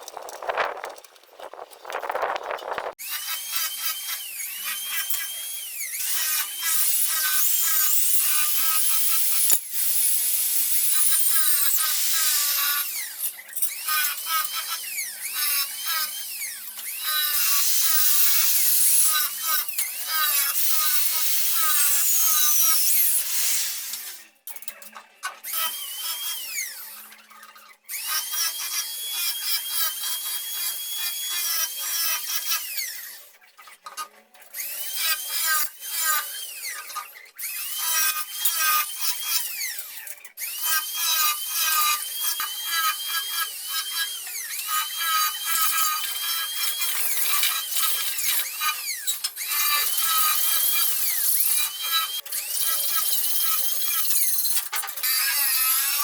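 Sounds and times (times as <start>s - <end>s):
power tool whining on wood: 0.0s - 24.4s, 25.2s - 33.7s, 34.6s - 56.0s.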